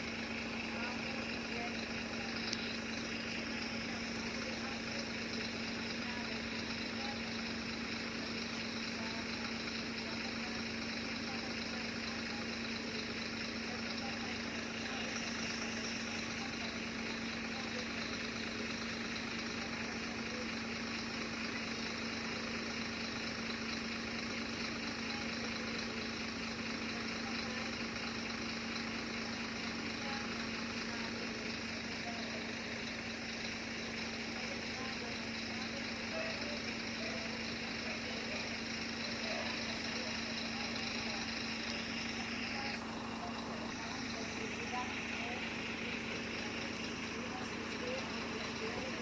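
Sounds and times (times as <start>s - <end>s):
engine idling hum: 0.0s - 49.0s.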